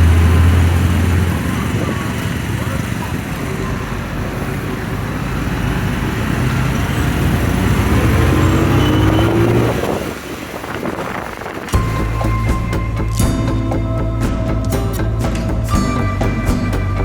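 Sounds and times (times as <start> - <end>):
wind and road noise: 0.0 - 13.9
motorcycle engine: 0.0 - 17.0.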